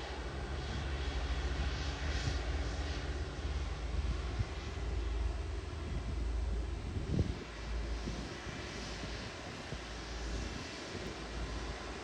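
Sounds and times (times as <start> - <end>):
jet engines flying past: 0.0 - 12.0.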